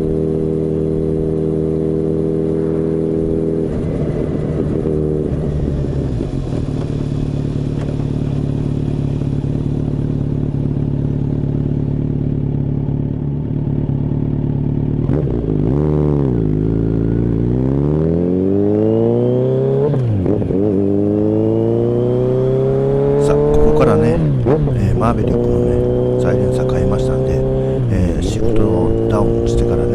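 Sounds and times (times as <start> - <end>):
motorcycle engine while riding: 0.0 - 29.9.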